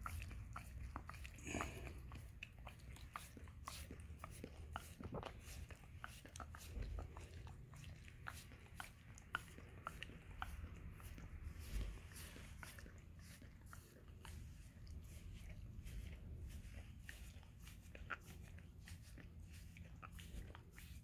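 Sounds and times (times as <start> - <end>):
dog licking toes: 0.0 - 21.0.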